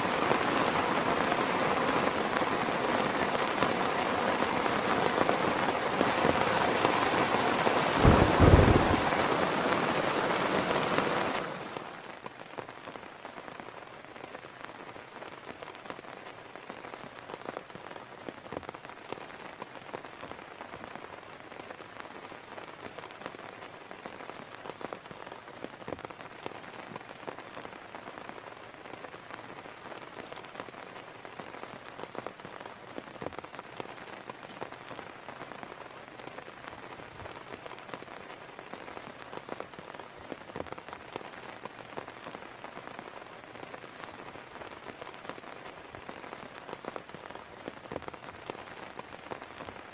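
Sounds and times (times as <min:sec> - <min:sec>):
heavy rain falling: 0:00.0 - 0:49.9
raindrops hitting a surface: 0:00.0 - 0:49.9.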